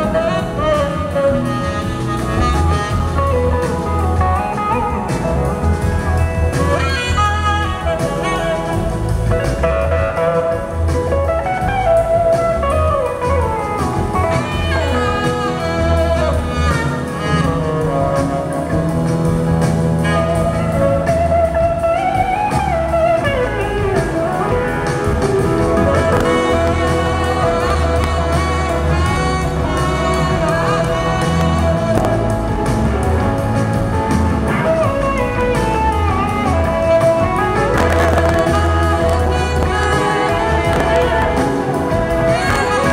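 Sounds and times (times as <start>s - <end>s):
electric guitar lead sliding: 0.0s - 42.9s
live blues band playing: 0.0s - 42.9s.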